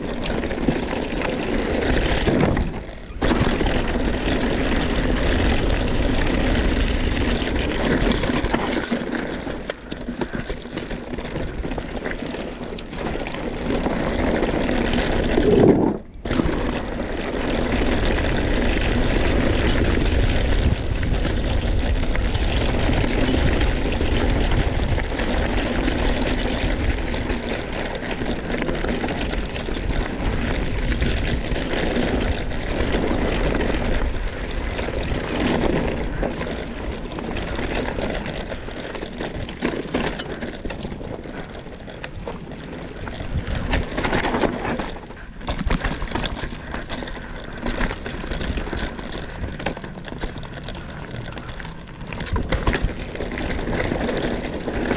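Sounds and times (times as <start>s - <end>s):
tyres crunching over stones: 0.0s - 25.6s, 26.3s - 54.9s.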